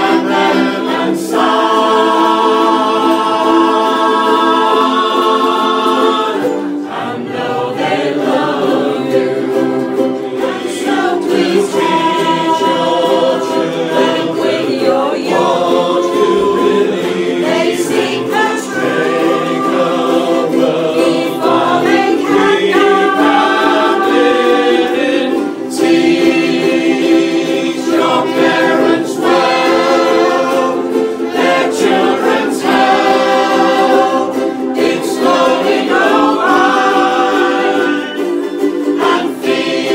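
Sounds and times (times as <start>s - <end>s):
men and women singing in chorus: 0.0s - 39.9s
ukuleles strumming: 0.0s - 39.9s.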